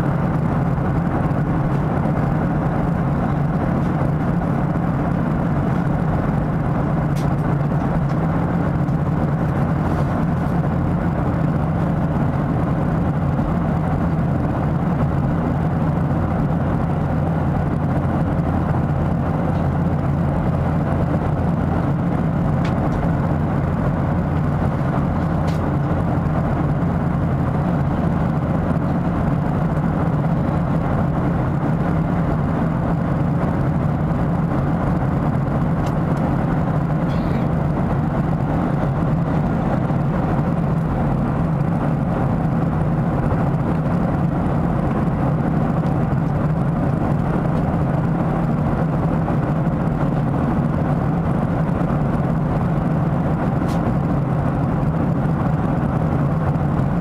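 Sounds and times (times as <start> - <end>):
airplane cabin drone: 0.0 - 57.0
jet engines humming: 0.0 - 57.0.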